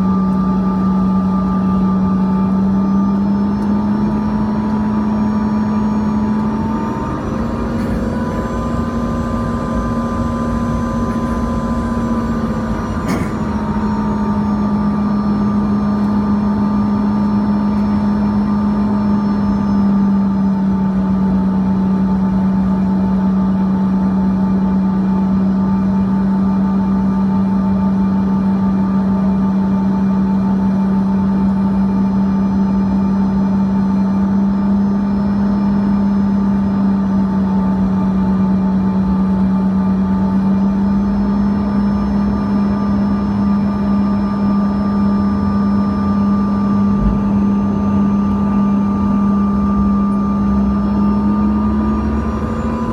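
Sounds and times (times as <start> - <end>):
jet engine cabin drone: 0.0 - 52.9
turbine whines: 0.0 - 52.9.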